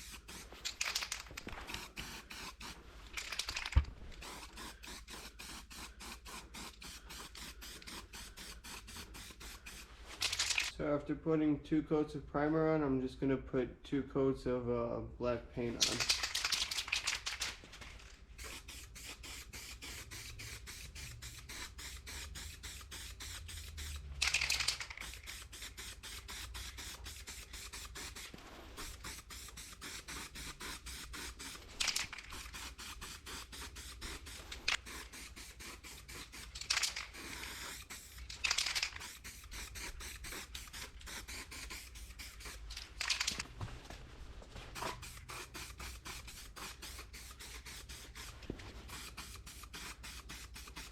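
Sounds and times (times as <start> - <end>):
spray paint can hissing: 0.0 - 10.7, 15.8 - 17.6, 18.4 - 43.4, 44.7 - 50.9.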